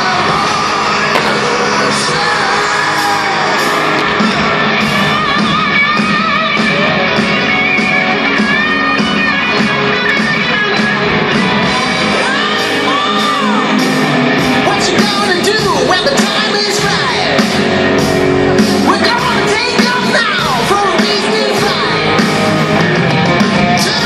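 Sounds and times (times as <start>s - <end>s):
person singing: 0.0s - 17.6s, 18.8s - 22.5s, 23.6s - 24.0s
crowd shouting: 0.0s - 24.0s
live rock band: 0.0s - 24.0s.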